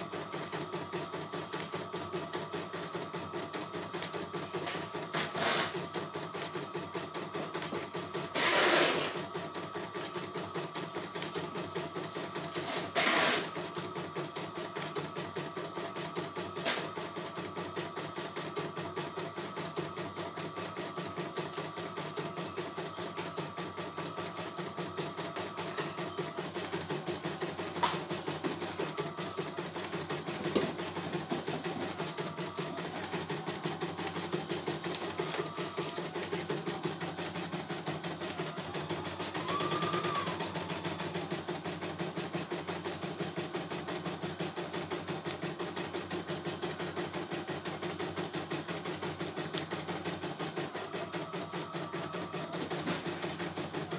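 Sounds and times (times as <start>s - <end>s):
embroidery machine stitching: 0.0s - 53.9s.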